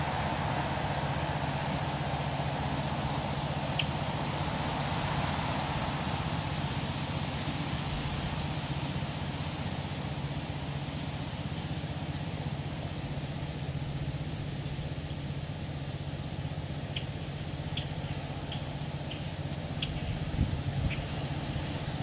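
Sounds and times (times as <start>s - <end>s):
low rumbling hum: 0.0s - 22.0s
outdoor background noise: 0.0s - 22.0s.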